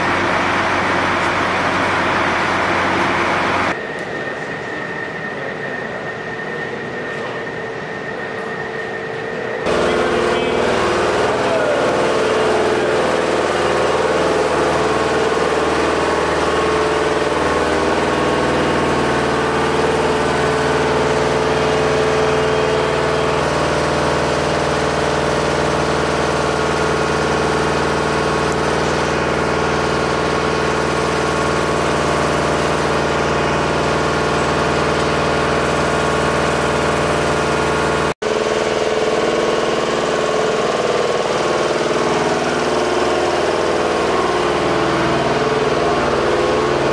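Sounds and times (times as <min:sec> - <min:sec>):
truck engine idling: 0:00.0 - 0:03.8, 0:09.6 - 0:46.9.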